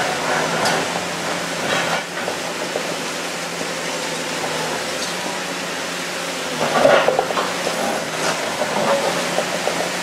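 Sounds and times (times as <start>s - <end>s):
diesel excavator engine running: 0.0s - 10.0s.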